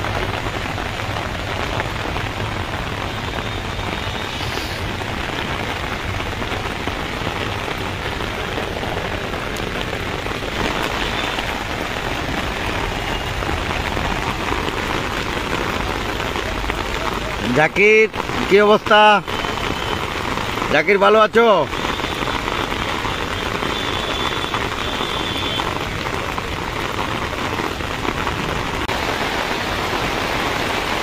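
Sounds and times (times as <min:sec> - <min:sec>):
heavy rain on river: 0:00.0 - 0:31.0.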